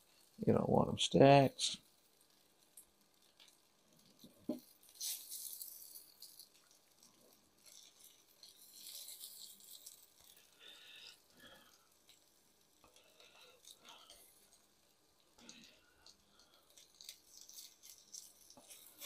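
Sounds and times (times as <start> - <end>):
meat sizzling in oil: 1.2 - 19.0.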